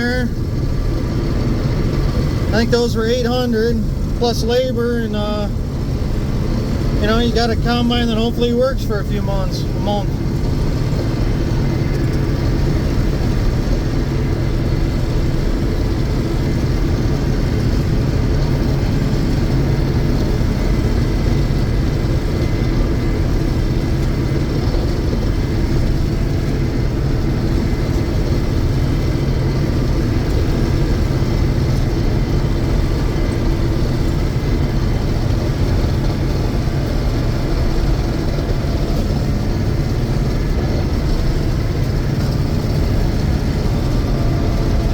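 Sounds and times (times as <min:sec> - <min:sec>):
combine harvester droning: 0:00.0 - 0:44.9.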